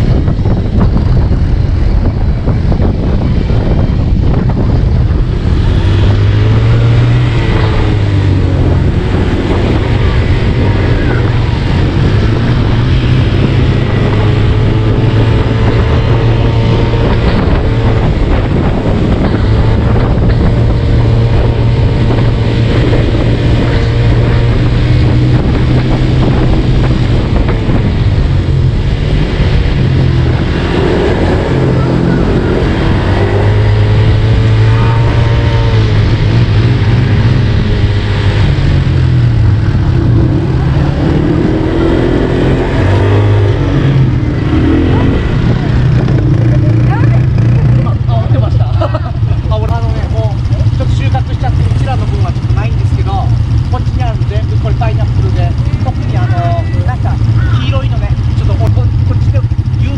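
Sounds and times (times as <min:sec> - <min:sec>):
atv engine revving: 0:00.0 - 0:59.9
wind noise on microphone: 0:00.0 - 0:59.9.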